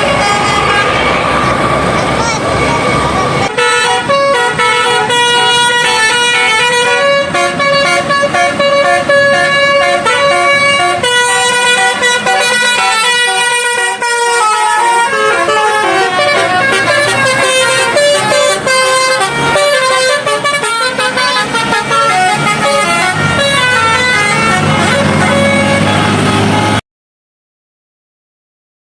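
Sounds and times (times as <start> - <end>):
musical air horn playing a tune: 2.6 - 26.8.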